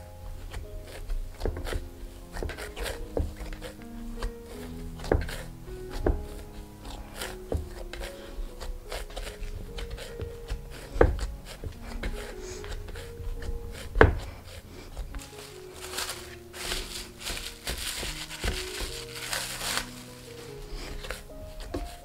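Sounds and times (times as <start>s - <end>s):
hands kneading dough: 0.0s - 22.0s
soft background music: 0.0s - 22.0s.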